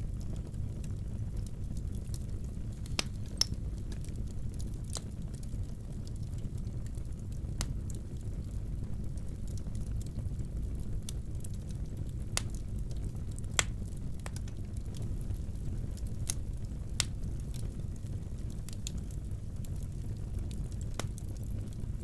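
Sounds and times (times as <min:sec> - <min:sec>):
fire rumbling in fireplace: 0:00.0 - 0:22.0.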